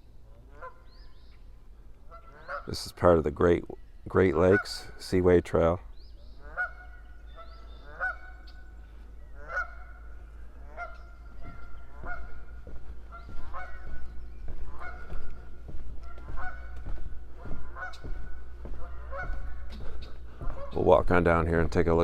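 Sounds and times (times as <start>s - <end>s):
geese honking: 0.2s - 1.3s, 2.0s - 22.0s.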